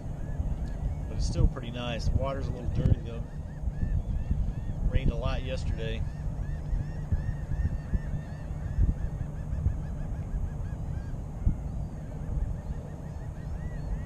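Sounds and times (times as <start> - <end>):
flock of birds calling: 0.0 - 14.0
wind rumble on microphone: 0.0 - 14.0.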